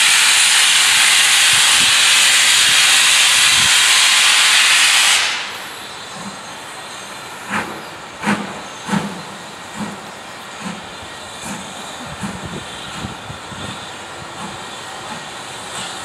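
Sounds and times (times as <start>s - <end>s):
steam hissing: 0.0s - 16.0s
steam locomotive exhaust beats: 0.0s - 16.0s.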